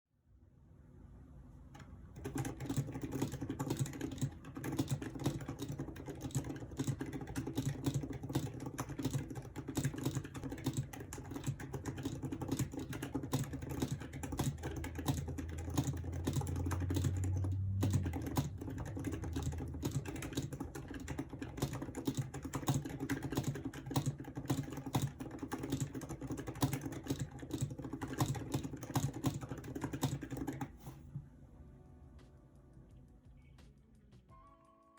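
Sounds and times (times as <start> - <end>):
fast keyboard typing: 2.2 - 30.9.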